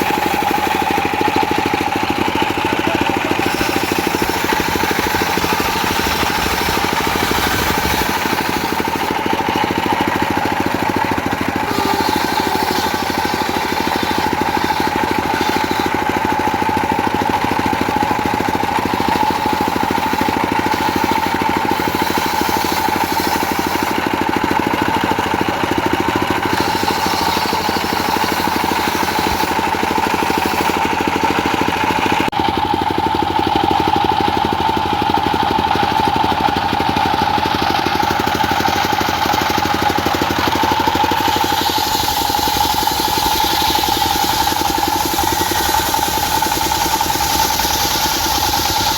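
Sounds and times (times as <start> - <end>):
diesel engine driving sawmill: 0.0 - 48.9.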